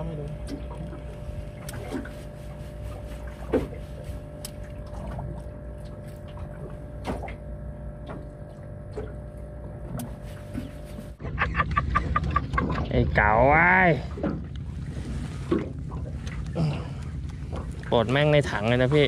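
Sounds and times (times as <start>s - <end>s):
steady low hum: 0.0s - 19.0s
water lapping against boat hull: 0.0s - 19.0s.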